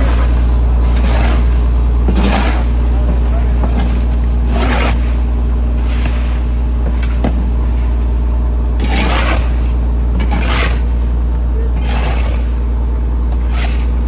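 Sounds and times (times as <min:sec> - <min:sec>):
diesel engine droning: 0:00.0 - 0:14.0.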